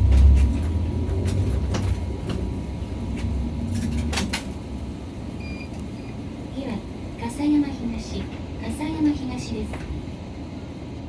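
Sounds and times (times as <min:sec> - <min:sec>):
bus diesel engine: 0:00.0 - 0:11.0.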